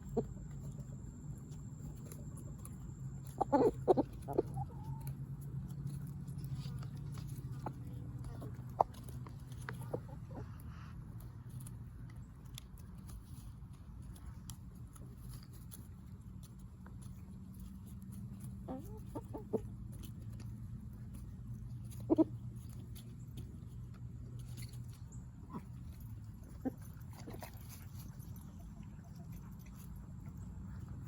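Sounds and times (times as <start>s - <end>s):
chickens clucking: 0.0s - 13.3s, 14.9s - 31.0s
low background hum: 0.0s - 31.0s.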